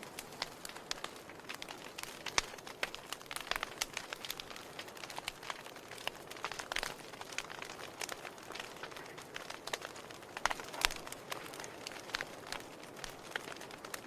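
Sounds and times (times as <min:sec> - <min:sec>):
soft hiss of flame: 0:00.0 - 0:14.0
wood fire crackling and popping: 0:00.0 - 0:14.0.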